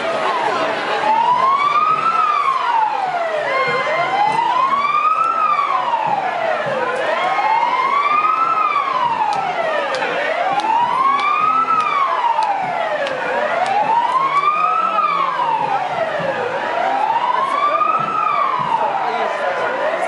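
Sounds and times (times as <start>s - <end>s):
street crowd noise: 0.0s - 20.0s
vehicle siren wailing: 0.0s - 20.0s.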